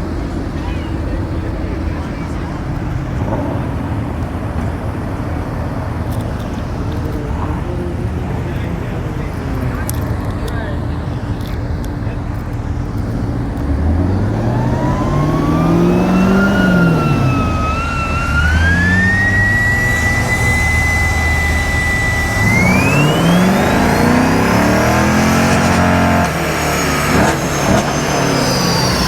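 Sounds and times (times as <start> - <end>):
car engine revving through gears: 0.0 - 29.0
high whine of dyno rollers: 0.0 - 29.0.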